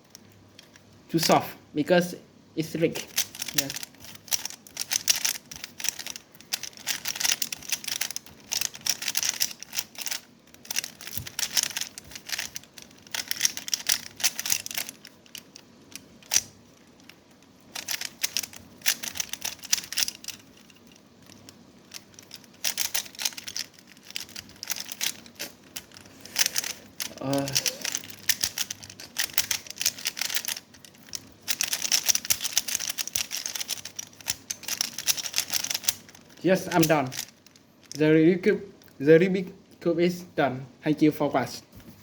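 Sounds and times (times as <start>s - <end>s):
puzzle cube clicking as turned: 3.0s - 38.0s.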